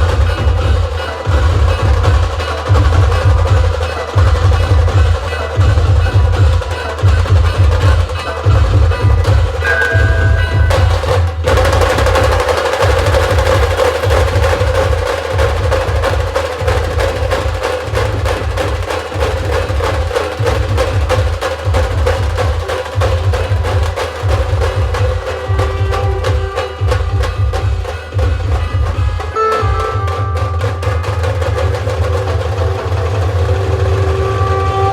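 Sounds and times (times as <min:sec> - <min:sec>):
dense driving drumming: 0:00.0 - 0:34.9.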